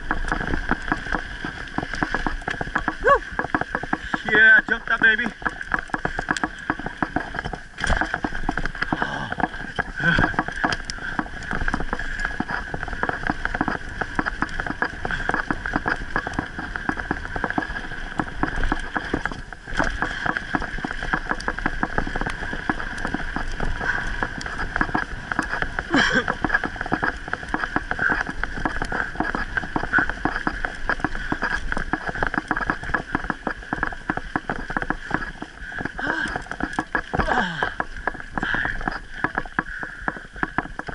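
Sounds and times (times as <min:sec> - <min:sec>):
bike rattling on dirt trail: 0:00.0 - 0:40.9.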